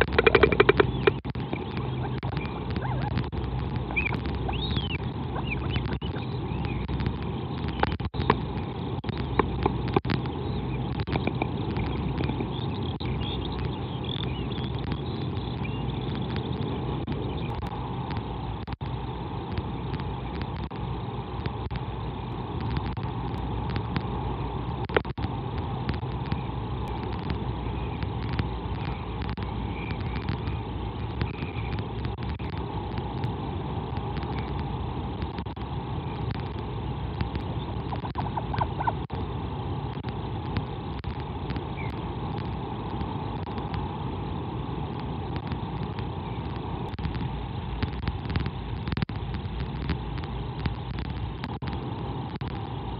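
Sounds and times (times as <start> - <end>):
low hum: 0.0 - 52.9
wind noise on microphone: 0.0 - 52.9.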